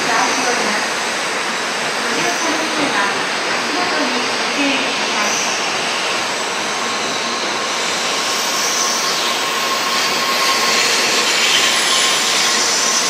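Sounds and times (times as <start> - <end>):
bullet train rushing: 0.0 - 13.0.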